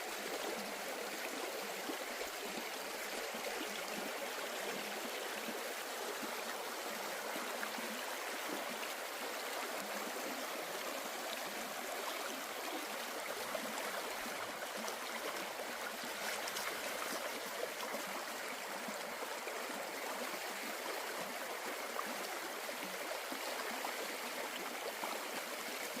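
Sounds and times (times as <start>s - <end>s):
stream flowing over rocks: 0.0s - 26.0s.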